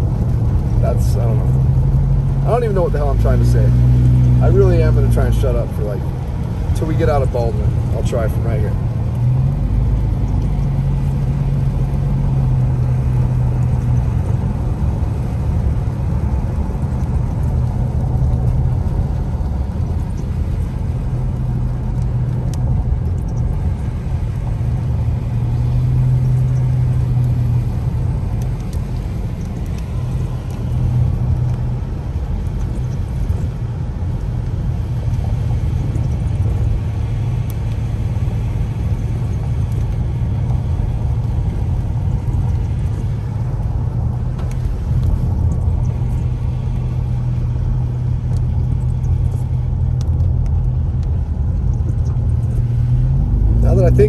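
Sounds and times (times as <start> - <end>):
car engine and road drone: 0.0 - 54.0
tyre noise on wet road: 0.0 - 54.0.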